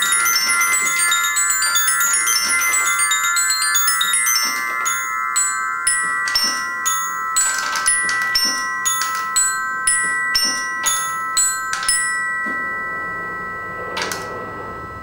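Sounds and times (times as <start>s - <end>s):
glockenspiel notes from ball bearings: 0.0s - 15.0s.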